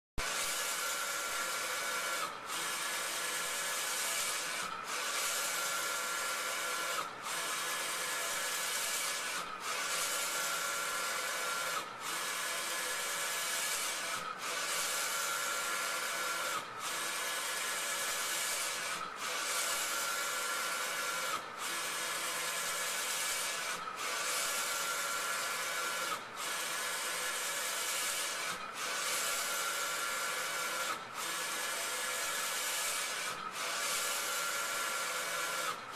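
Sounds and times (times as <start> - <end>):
inkjet printer carriage whirring: 0.2 - 35.9.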